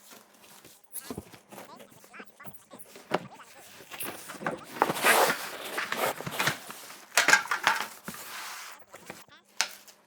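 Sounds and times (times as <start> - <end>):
cardboard and plastic rustling: 0.0 - 10.0.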